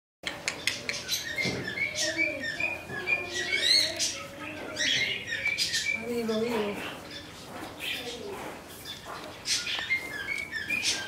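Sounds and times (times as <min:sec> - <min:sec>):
parrots chattering: 0:00.3 - 0:11.0.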